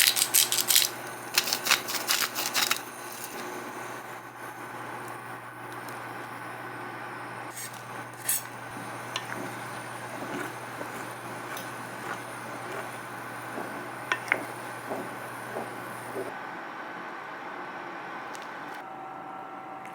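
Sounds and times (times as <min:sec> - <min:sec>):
steady low hum: 0:00.2 - 0:19.9.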